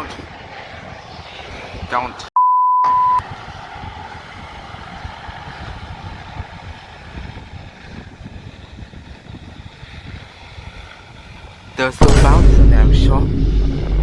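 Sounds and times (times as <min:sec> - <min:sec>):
jet airliner hiss and rumble: 0:00.0 - 0:02.3, 0:03.2 - 0:14.0.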